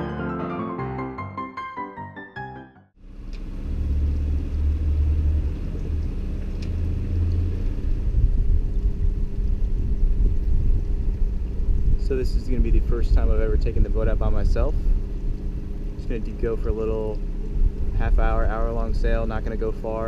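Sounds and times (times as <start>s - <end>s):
boat engine running: 3.1s - 20.0s.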